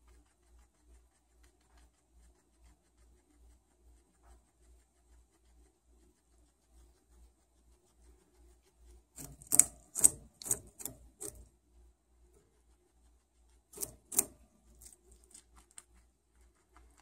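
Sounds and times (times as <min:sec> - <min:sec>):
guinea pig crunching carrot: 0:00.0 - 0:17.0.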